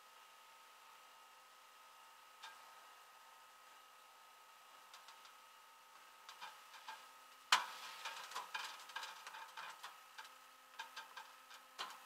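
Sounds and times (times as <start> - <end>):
faint steady high whine: 0.0 - 12.0.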